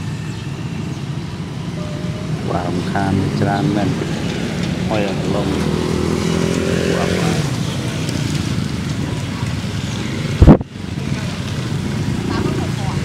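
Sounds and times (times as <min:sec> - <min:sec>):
small motorbikes riding past: 0:01.6 - 0:13.0.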